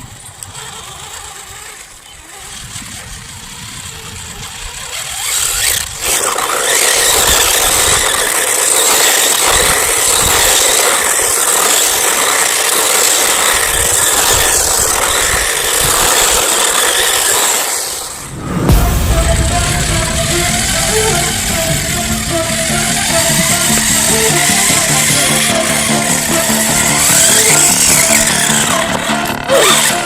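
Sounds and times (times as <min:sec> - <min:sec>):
remote-control car motor and tyres: 0:00.0 - 0:18.3, 0:23.8 - 0:30.0.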